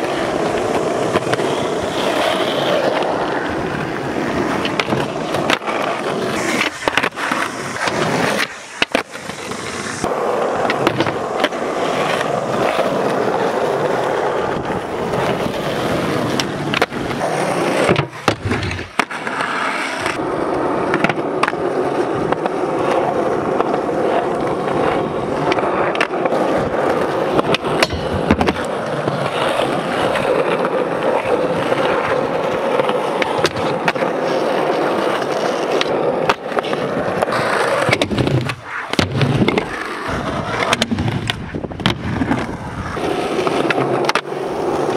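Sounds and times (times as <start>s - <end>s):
skateboard pops and clacks: 0.0s - 44.9s
skateboard wheels rolling on concrete: 0.0s - 44.9s.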